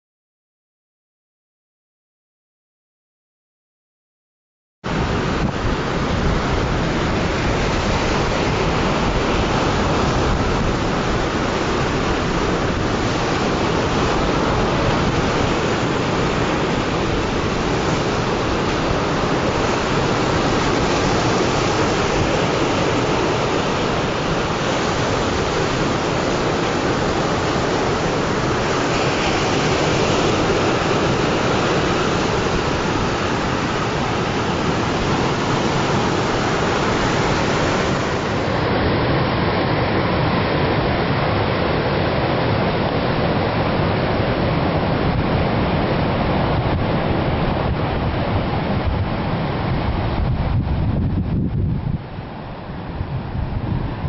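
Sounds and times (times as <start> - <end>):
sea waves breaking on shore: 4.9 - 54.0.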